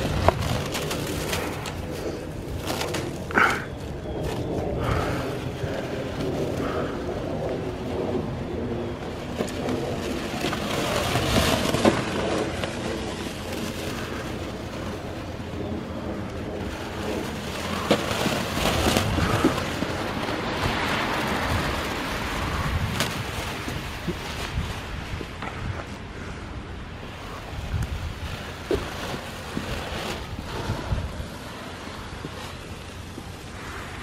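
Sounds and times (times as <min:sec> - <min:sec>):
plastic wrap crackling and rustling: 0:00.0 - 0:26.0, 0:27.0 - 0:33.9
wind rumbling on microphone: 0:00.0 - 0:34.0.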